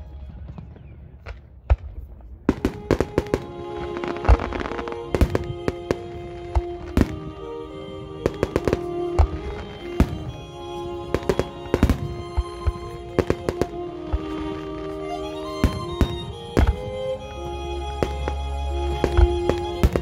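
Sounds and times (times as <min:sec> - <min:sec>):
fireworks bangs and crackles: 0:00.0 - 0:07.5, 0:08.2 - 0:10.5, 0:11.1 - 0:17.0, 0:19.0 - 0:20.0.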